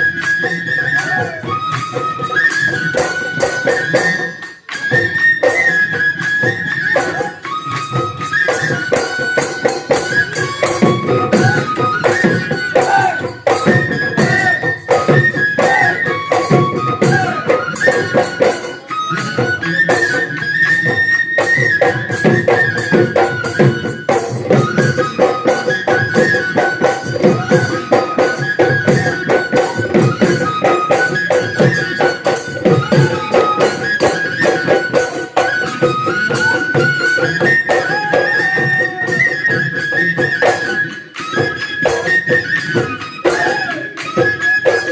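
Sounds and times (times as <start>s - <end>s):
wind instrument melody: 0.0s - 44.9s
fast drumming: 8.3s - 44.9s.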